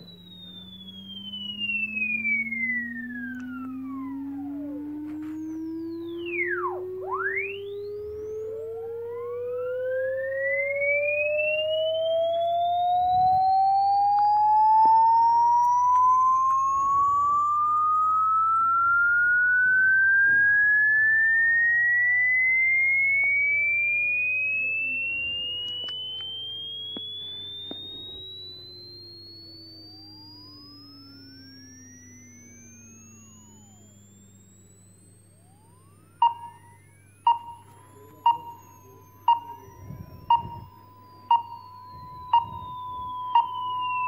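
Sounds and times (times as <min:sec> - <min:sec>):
faint low hum: 0:00.0 - 0:44.0
rising test tone sweep: 0:00.0 - 0:44.0
swooping chirps: 0:00.0 - 0:44.0.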